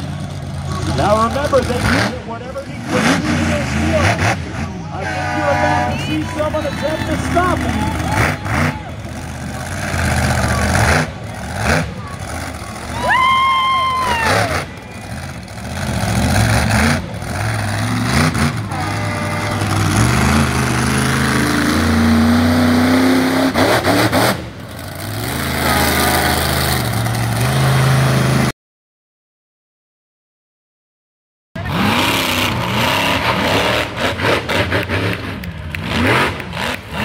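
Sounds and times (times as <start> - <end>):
truck engine revving: 0.0 - 28.5, 31.6 - 37.0.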